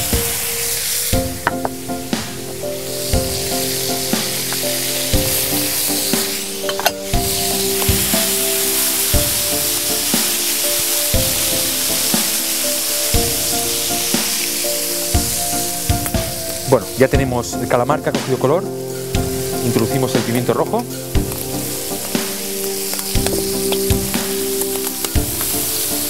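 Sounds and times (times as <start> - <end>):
squid sizzling in hot oil: 0.0 - 17.0, 18.6 - 26.0
background music with beat: 0.0 - 26.0
wooden spatula stirring: 1.4 - 26.0.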